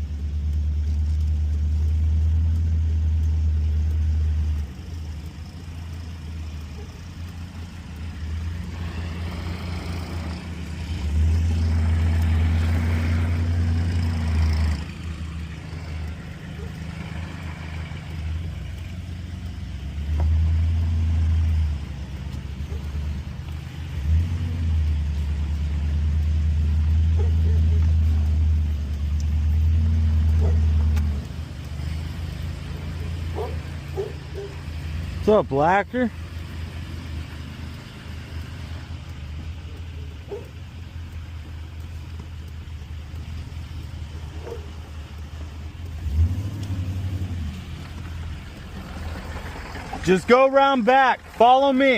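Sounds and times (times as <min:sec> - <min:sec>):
tractor engine rumbling: 0:00.0 - 0:51.9.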